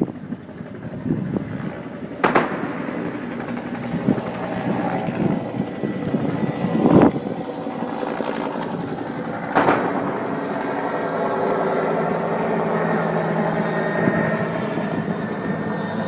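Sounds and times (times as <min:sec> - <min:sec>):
helicopter drone overhead: 0:00.0 - 0:16.0.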